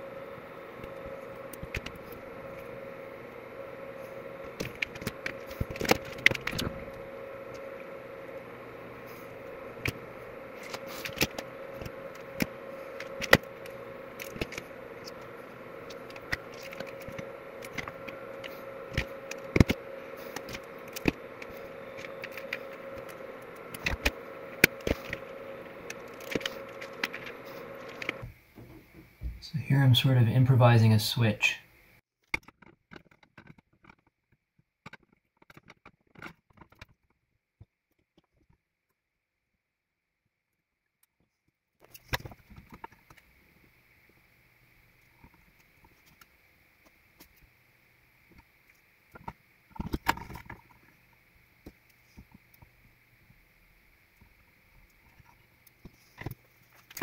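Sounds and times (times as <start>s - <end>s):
steady background hum: 0.0s - 38.6s, 41.2s - 57.0s.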